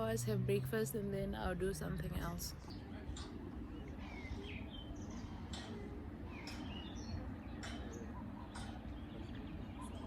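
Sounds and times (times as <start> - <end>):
birds chirping: 1.4 - 10.0.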